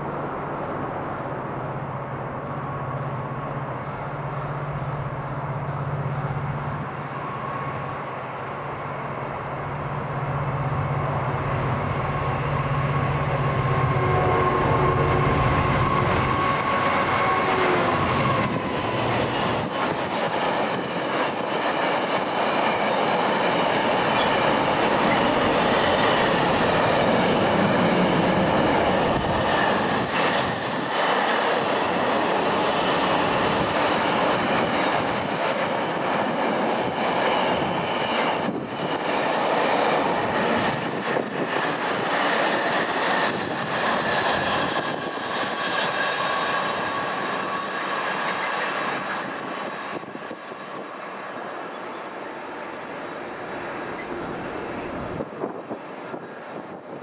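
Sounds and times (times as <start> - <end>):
train rolling on rails: 0.0 - 57.0.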